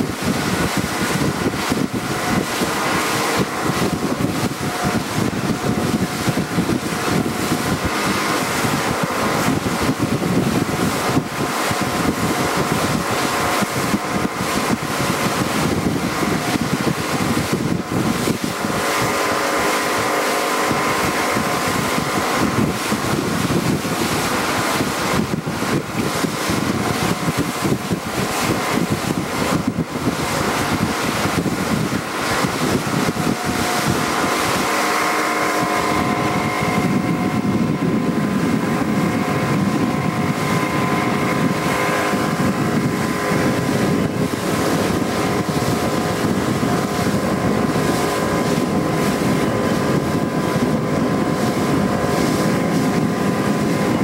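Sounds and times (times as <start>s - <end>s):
boat engine running: 0.0s - 54.0s
wind buffeting microphone: 0.0s - 54.0s.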